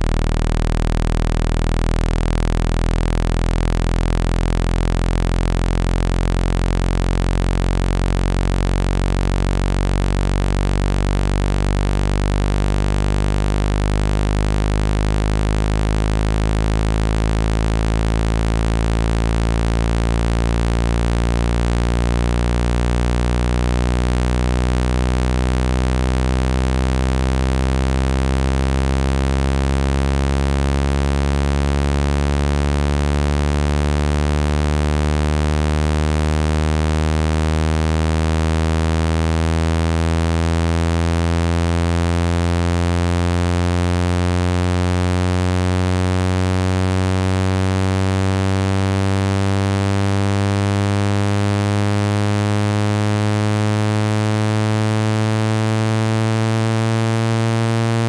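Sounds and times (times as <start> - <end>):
low buzzy rising electronic tone: 0.0 - 58.0.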